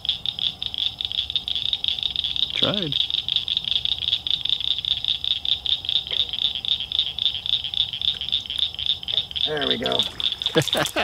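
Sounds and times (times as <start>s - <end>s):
animals pulsing trill: 0.0s - 11.0s.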